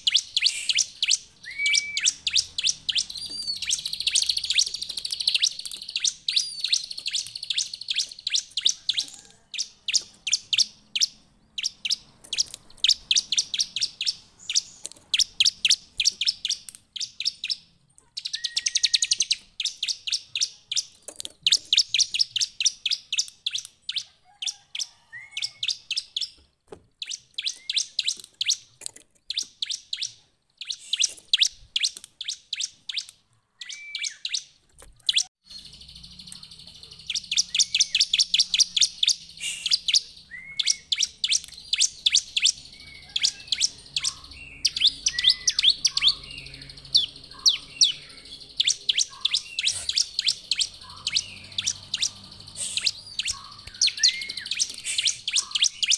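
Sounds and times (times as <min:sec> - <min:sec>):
bird chirping and trilling: 0:00.0 - 0:26.4, 0:27.0 - 0:55.9.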